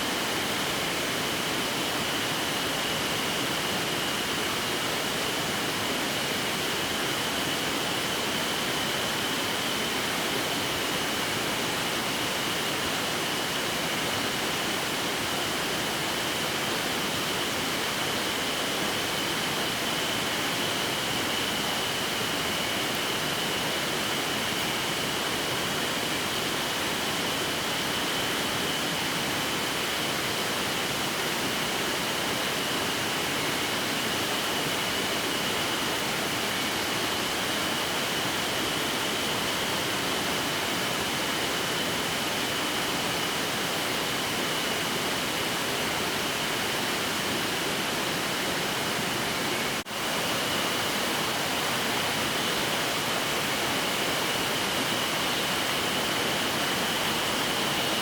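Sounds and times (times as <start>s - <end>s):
stream rushing: 0.0s - 58.0s.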